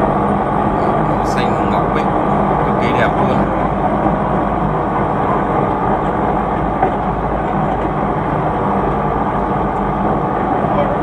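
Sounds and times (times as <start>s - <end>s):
truck engine rumble: 0.0s - 11.0s.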